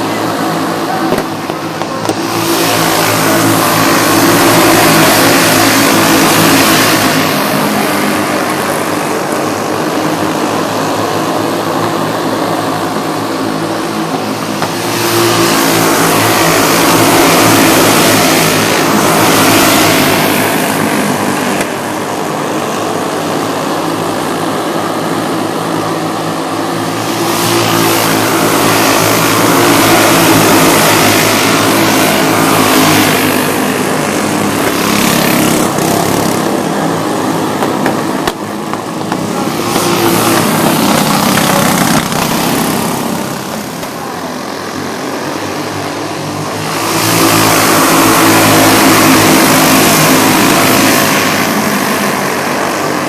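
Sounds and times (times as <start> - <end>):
go-kart engines at high revs: 0.0 - 53.0.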